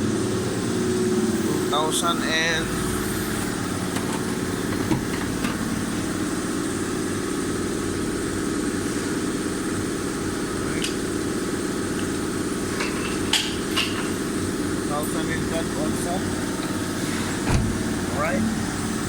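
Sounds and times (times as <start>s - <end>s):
engine idling drone: 0.0s - 19.0s.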